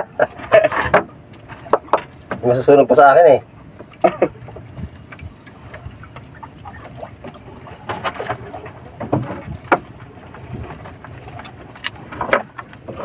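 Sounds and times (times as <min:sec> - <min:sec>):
water wash around hull: 0:00.0 - 0:13.0
wind: 0:00.0 - 0:13.0.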